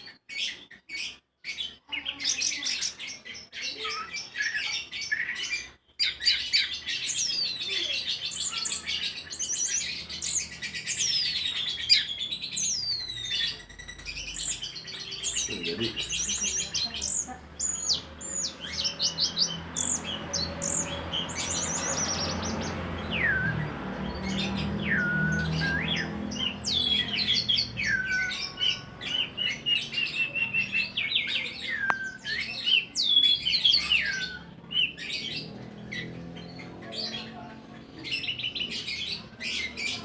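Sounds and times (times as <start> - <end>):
songbird chirps and trills: 0.0 - 40.0.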